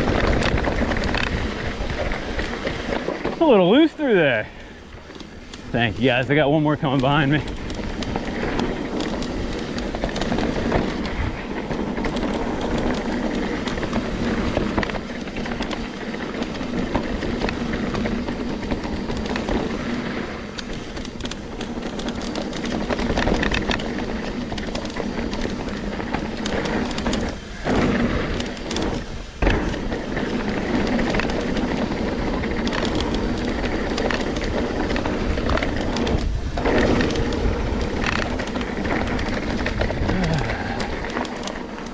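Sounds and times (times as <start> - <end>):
bike rattling over rough ground: 0.0 - 41.9
bike tyre rumble: 0.0 - 41.9.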